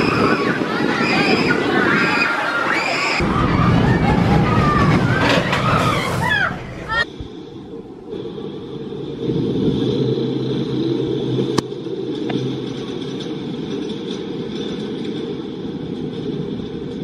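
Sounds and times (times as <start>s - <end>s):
lift machinery drone: 0.0s - 17.0s.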